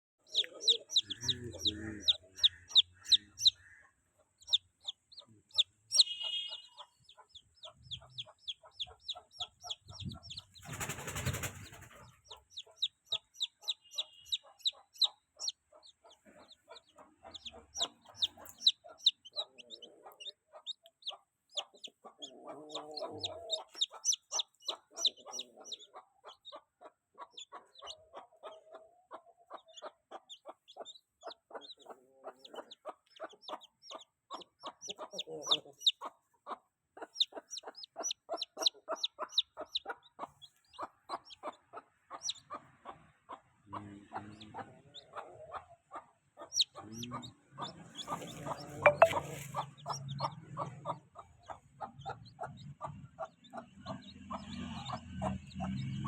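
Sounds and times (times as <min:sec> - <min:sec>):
chicks peeping: 0:00.2 - 0:56.0.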